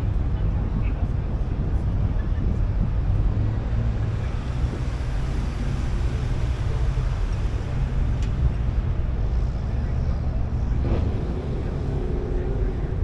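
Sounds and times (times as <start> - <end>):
low rumble of vehicles: 0.0 - 13.0.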